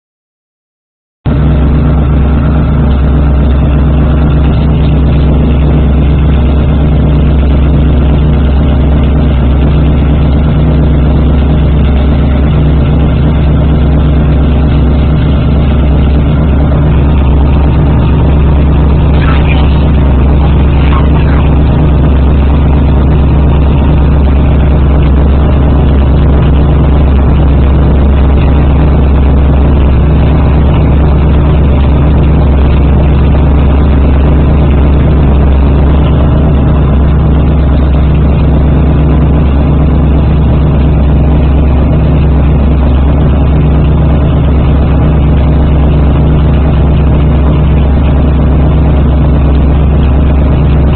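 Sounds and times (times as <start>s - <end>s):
deep car exhaust rumble: 1.3s - 50.9s.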